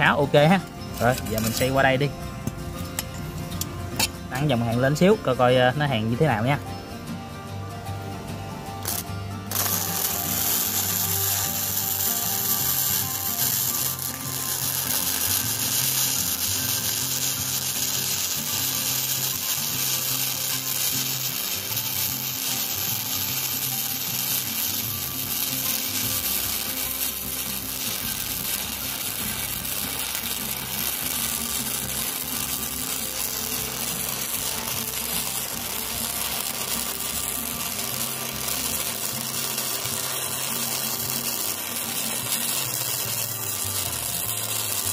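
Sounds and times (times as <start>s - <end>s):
welding arc crackling sizzle: 0.0s - 44.9s.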